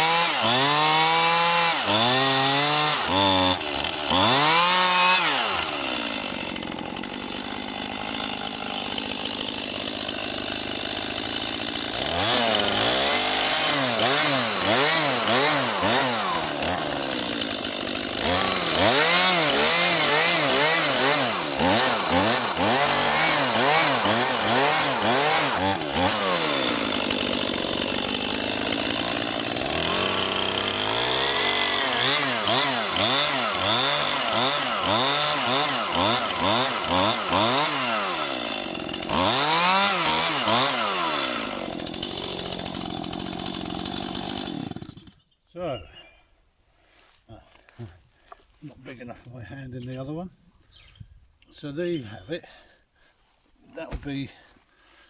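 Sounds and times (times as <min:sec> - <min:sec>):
chainsaw cutting log: 0:00.0 - 0:45.2, 0:53.8 - 0:55.0.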